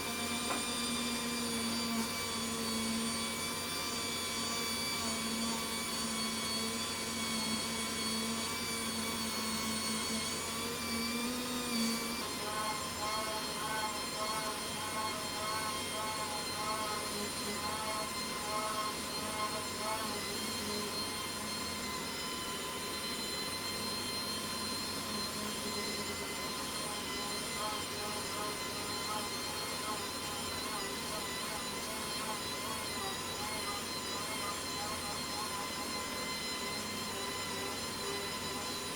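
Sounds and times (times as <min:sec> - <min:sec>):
sander running: 0:00.0 - 0:38.9.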